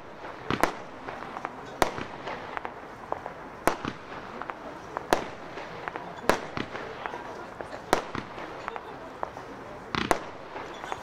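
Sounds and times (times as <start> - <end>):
firework cracks: 0.0 - 11.0
firework pops: 0.0 - 11.0.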